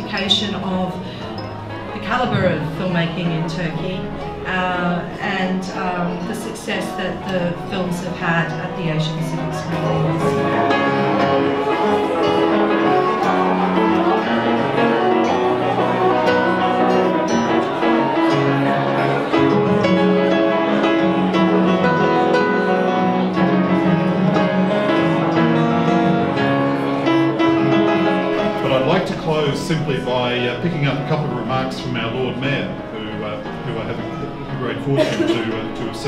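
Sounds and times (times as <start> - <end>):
bowed string instrument: 0.0 - 36.0
piano: 0.0 - 36.0
plucked guitar notes: 0.0 - 36.0.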